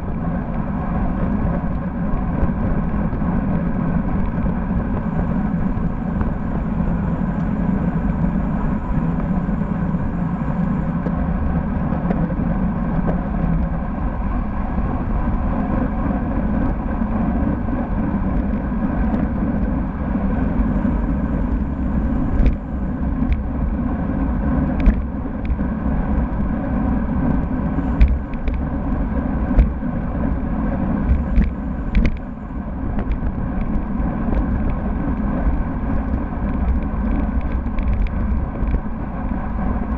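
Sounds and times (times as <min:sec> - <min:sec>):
tyre and road rumble: 0:00.0 - 0:39.9
wind noise on microphone: 0:00.0 - 0:39.9.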